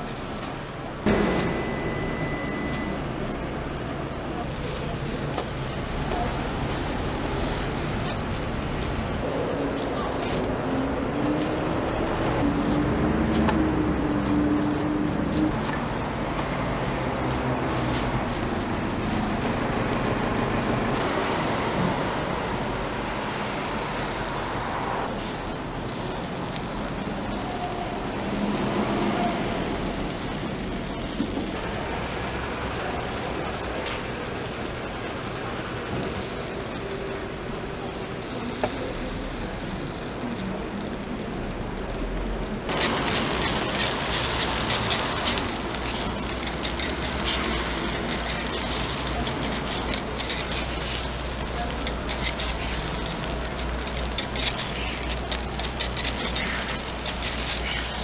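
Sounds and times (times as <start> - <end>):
street traffic: 0.0 - 58.0
batter sizzling on a griddle: 4.5 - 58.0.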